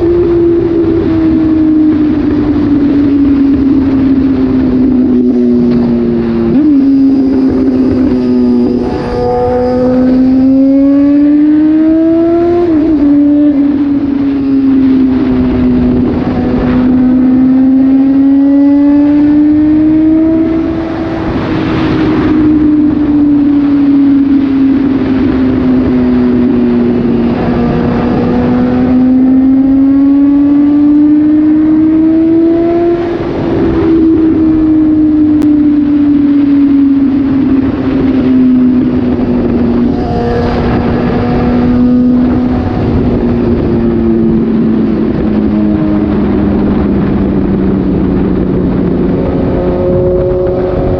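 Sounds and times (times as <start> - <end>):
motorcycle engine under way: 0.0 - 50.9
wind rushing over microphone: 0.0 - 50.9.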